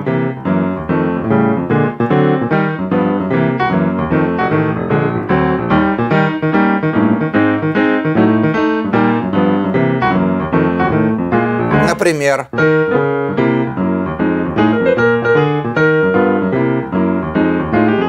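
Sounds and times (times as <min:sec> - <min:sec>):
solo jazz piano: 0:00.0 - 0:18.0.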